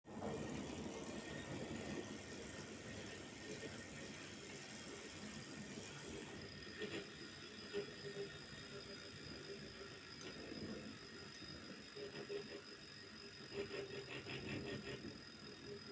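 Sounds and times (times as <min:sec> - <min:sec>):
bike trainer whirring: 0:00.1 - 0:15.9.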